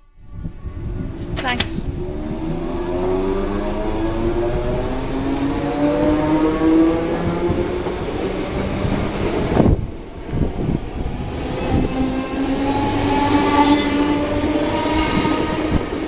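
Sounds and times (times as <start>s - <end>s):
train wheels rumbling: 0.9s - 16.0s.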